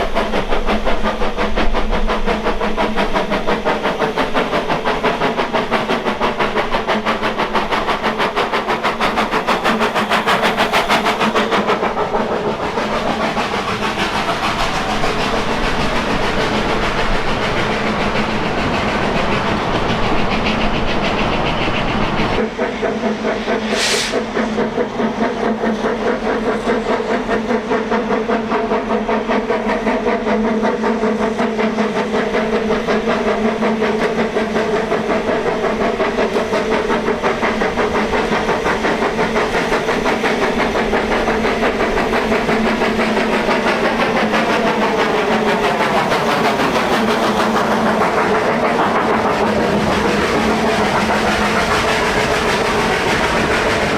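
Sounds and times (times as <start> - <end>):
rail noise: 0.0 - 53.9
steam hiss: 0.0 - 53.9
steam train chuffing: 0.0 - 53.9.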